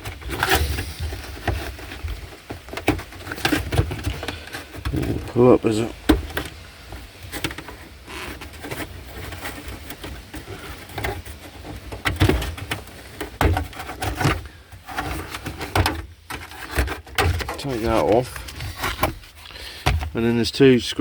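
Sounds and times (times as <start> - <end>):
car interior trim knocking and rattling: 0.0 - 20.3.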